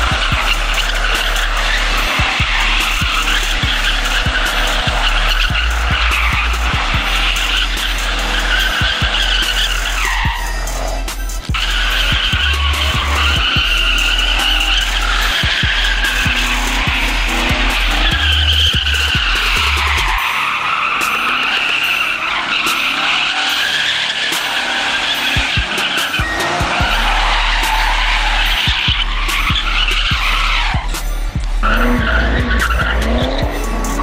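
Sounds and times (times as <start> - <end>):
deep bass line: 0.0 - 20.2, 26.2 - 34.0
tyres squealing: 0.0 - 34.0.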